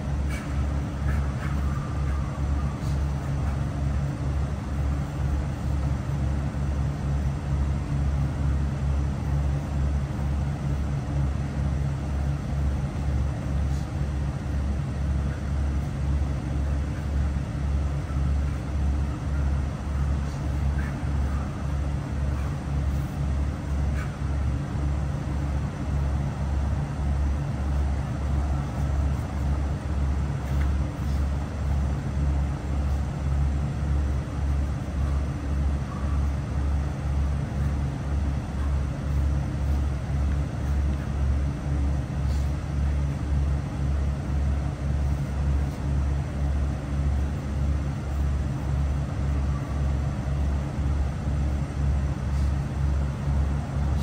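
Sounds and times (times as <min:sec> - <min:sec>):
pulsing low mechanical hum: 0:00.0 - 0:54.0.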